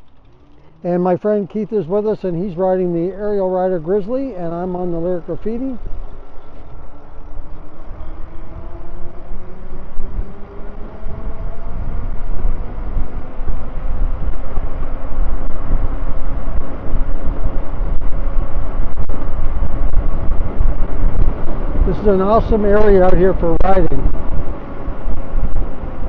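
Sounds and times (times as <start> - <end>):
wind rushing over microphone: 0.9 - 26.0.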